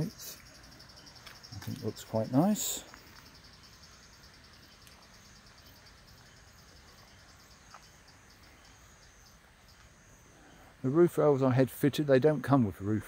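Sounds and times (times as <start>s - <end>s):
insect chirping trill: 0.0s - 11.6s.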